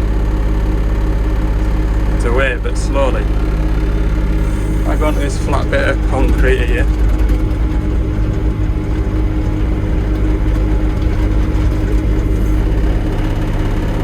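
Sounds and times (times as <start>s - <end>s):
diesel engine running: 0.0s - 14.0s
hydraulics humming: 0.0s - 14.0s.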